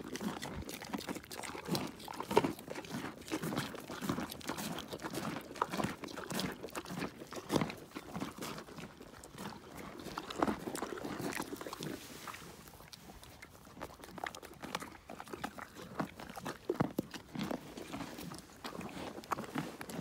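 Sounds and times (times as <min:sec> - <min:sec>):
crunching carrots: 0:00.0 - 0:20.0.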